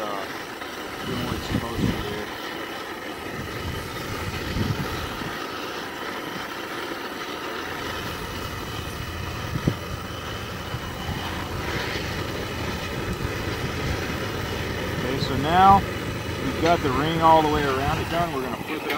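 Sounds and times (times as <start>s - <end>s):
gas burner running: 0.0s - 18.9s.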